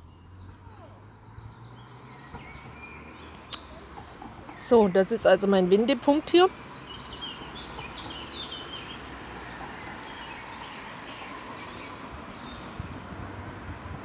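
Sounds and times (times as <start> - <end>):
songbirds twittering: 0.0 - 13.0.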